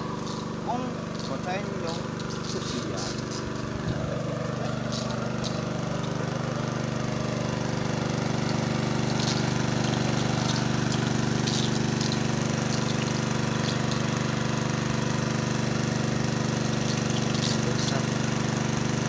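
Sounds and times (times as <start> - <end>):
water pump engine running: 0.0 - 19.0.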